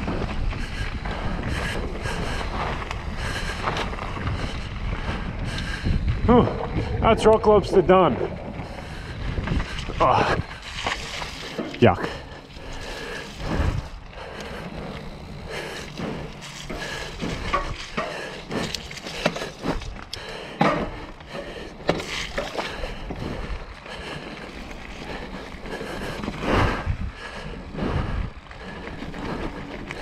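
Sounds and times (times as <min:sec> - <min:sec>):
bike tyres rushing on dirt: 0:00.0 - 0:30.0.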